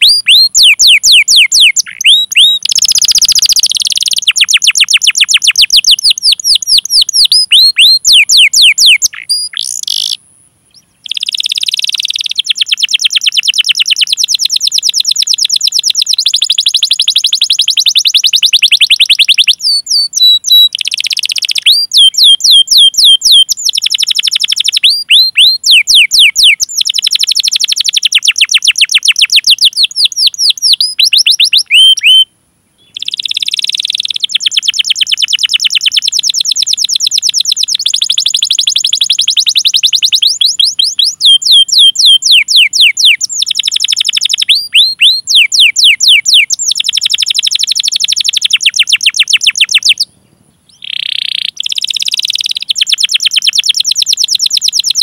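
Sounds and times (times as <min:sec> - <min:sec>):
canary singing call notes: 0:00.0 - 0:55.0.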